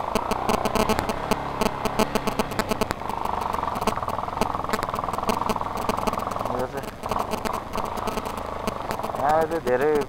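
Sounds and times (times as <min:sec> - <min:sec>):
motorcycle engine pulsing: 0:00.0 - 0:10.0.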